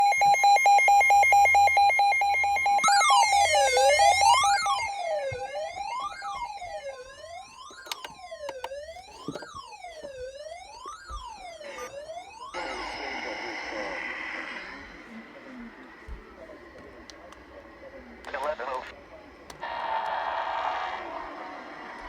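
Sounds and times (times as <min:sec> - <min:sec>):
synthetic wailing siren: 0:00.0 - 0:17.0, 0:19.5 - 0:22.0
pulsing two-tone alarm: 0:00.0 - 0:22.0.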